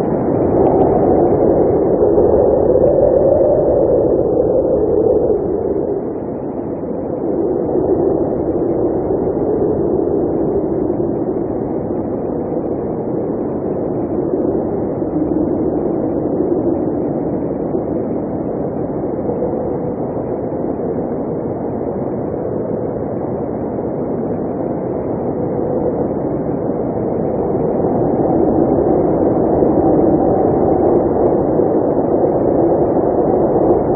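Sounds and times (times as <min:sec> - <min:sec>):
blizzard wind blowing: 0:00.0 - 0:33.9.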